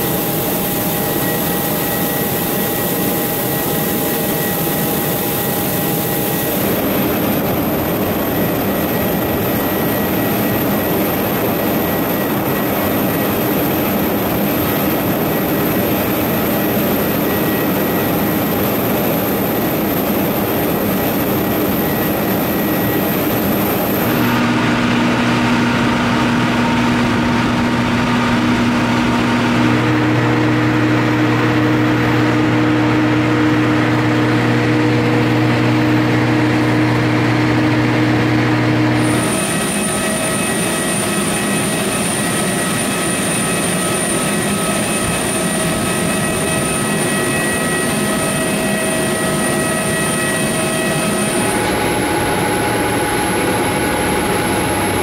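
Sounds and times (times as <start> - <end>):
jet aircraft noise: 0.0 - 55.0.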